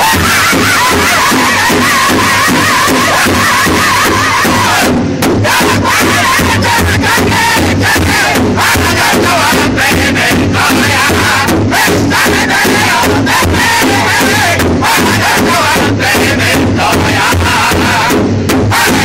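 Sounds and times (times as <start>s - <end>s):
large bass drum beating: 0.0s - 19.0s
men singing together: 0.0s - 19.0s.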